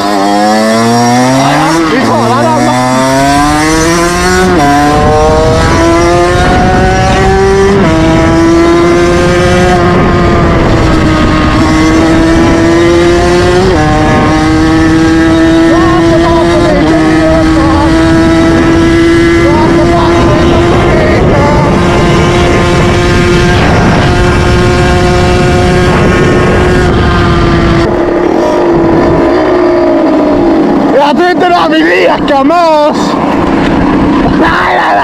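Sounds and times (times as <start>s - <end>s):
low rushing wind: 0.0s - 35.0s
moped engine at high revs: 0.0s - 35.0s.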